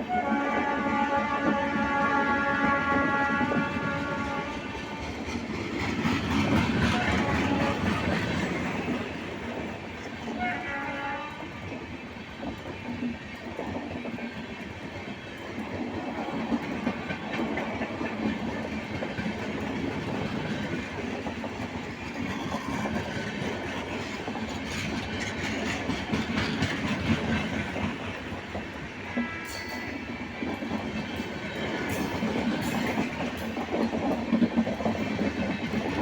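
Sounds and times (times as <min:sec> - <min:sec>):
train wheels clattering over rail joints: 0:02.0 - 0:10.3, 0:12.3 - 0:36.0.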